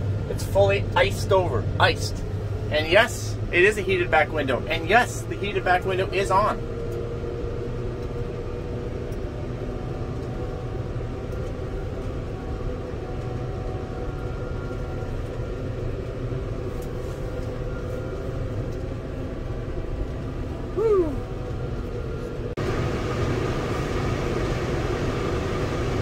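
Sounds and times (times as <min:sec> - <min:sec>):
heater fan running: 0:00.0 - 0:26.0.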